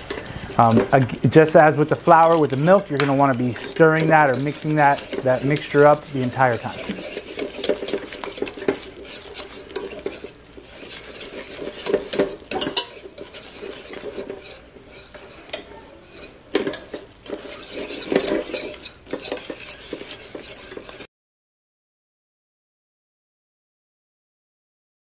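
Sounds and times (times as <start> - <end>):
whisk scraping in metal pan: 0.0 - 21.1.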